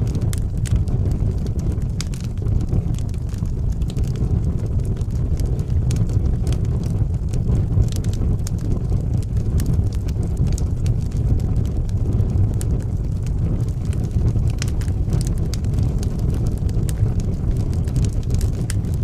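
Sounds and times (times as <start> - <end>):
burning wood crackling and popping: 0.0 - 19.0
low rumble of flames: 0.0 - 19.0.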